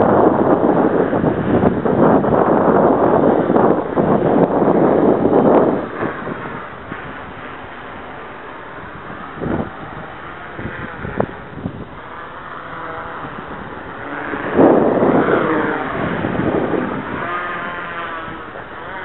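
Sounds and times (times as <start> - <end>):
multicopter propellers buzzing: 0.0 - 19.0.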